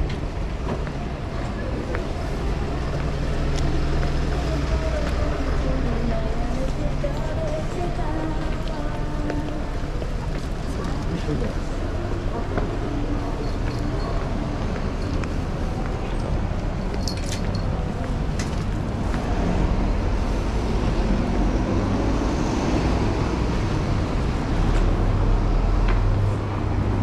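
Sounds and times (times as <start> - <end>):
traffic: 0.0 - 27.0.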